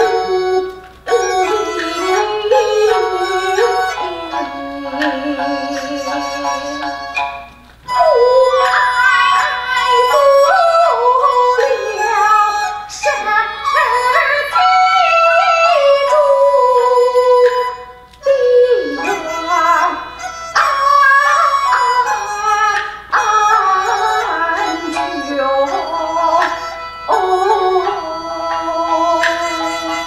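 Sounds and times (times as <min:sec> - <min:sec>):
high voice opera singing: 0:00.0 - 0:07.2, 0:07.9 - 0:30.0
bamboo flute: 0:00.0 - 0:30.0.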